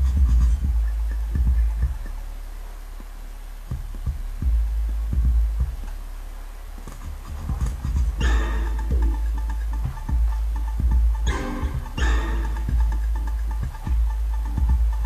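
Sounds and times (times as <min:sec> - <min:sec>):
deep bass notes throbbing: 0:00.0 - 0:15.0.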